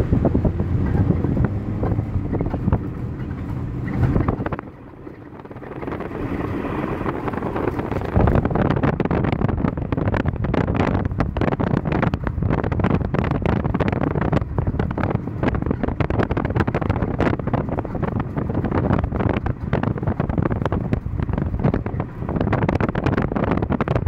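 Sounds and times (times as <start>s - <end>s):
road and wind noise: 0.0s - 24.0s
wheel scraping: 0.0s - 24.0s.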